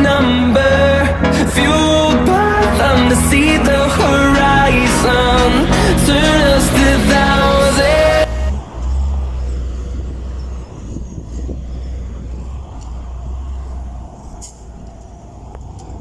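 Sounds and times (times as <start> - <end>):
heavy vehicle engine rumbling: 0.0 - 15.5.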